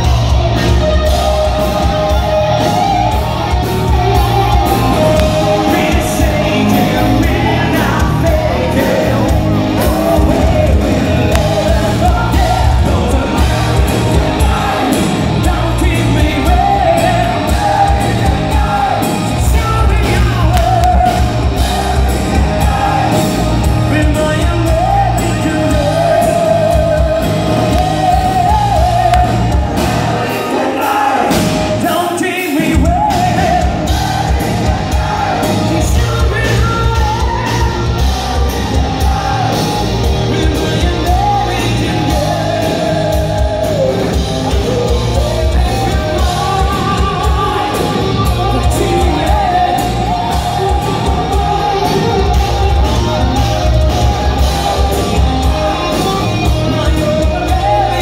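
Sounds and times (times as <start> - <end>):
live hard rock band playing: 0.0 - 58.0
person singing: 0.0 - 58.0.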